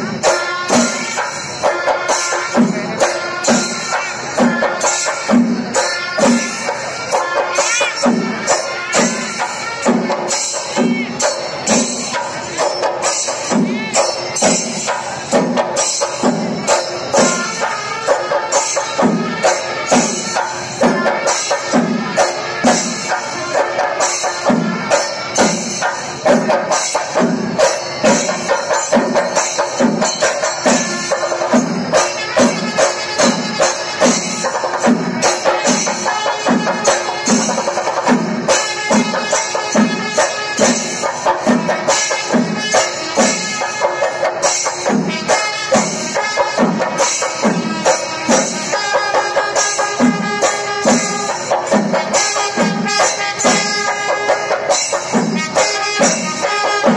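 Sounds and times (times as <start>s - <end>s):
jangling cymbals: 0.0s - 56.9s
percussion ensemble drumming: 0.0s - 56.9s.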